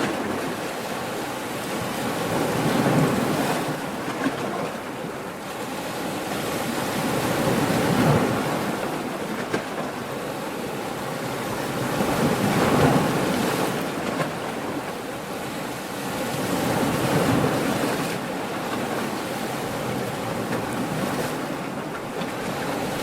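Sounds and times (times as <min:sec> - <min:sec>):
ocean waves washing in: 0:00.0 - 0:23.0.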